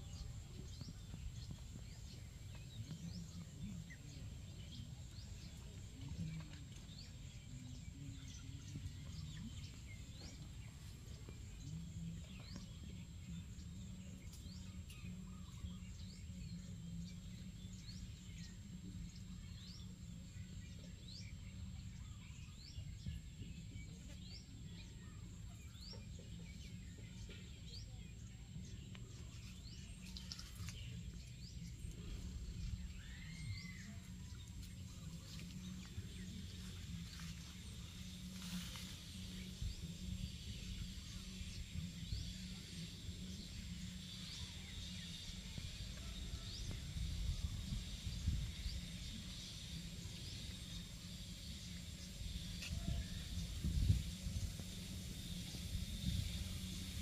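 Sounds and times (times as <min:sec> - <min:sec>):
low steady rumble: 0:00.0 - 0:57.0
small birds chirping: 0:00.0 - 0:57.0.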